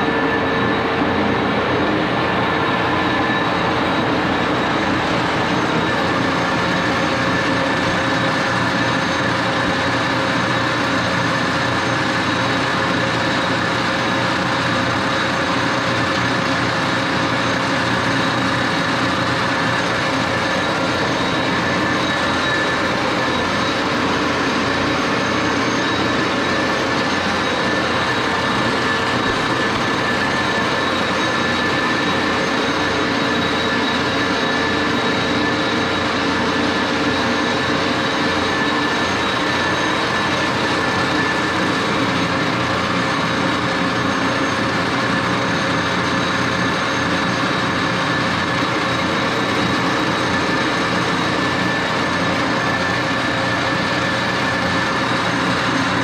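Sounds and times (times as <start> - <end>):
constant whining tones: 0.0 - 56.0
lathe gears droning: 0.0 - 56.0.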